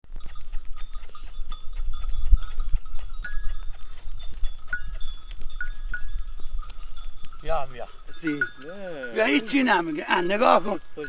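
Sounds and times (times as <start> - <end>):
animal bells clinking: 0.0 - 11.0.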